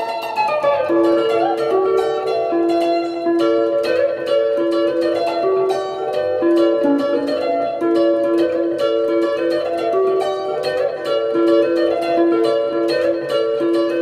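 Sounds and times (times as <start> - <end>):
clean electric guitar melody: 0.0 - 14.0.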